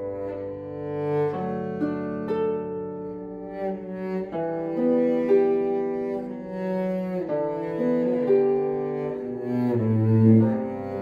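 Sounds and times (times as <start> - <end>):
cello long bowed notes: 0.0 - 11.0.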